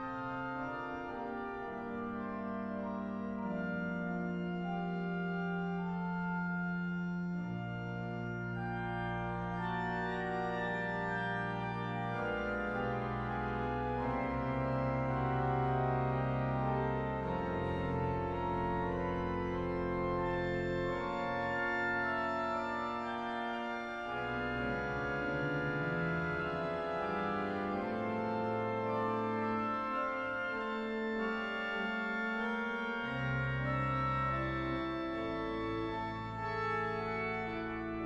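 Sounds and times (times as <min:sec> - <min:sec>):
organ music: 0:00.0 - 0:38.0.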